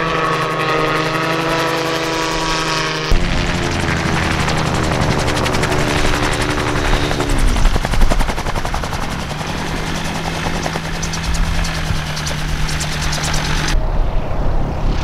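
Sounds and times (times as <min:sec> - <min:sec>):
rotor blades chopping: 0:00.0 - 0:13.8
gyroplane engine: 0:00.0 - 0:14.8.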